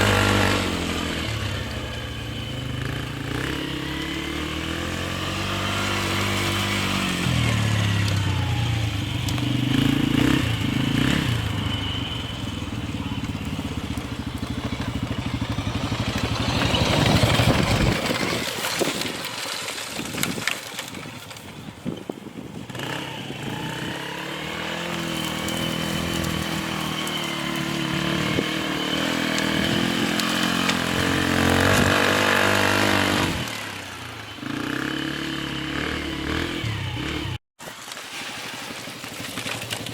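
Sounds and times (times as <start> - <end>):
quad engine revving: 0.0 - 19.3, 22.7 - 37.4.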